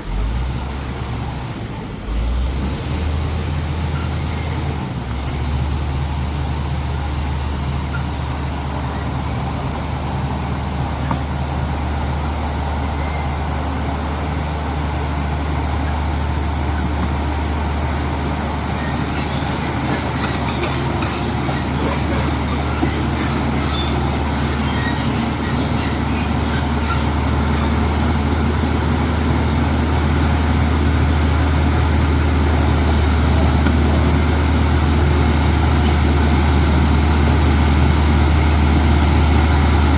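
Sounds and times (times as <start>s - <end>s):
truck engine humming: 0.0s - 39.9s.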